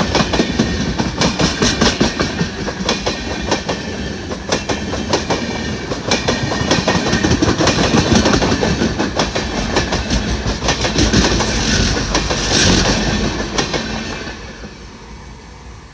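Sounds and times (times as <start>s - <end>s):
train wheels clattering over joints: 0.0s - 15.0s
train rumble: 0.0s - 15.9s.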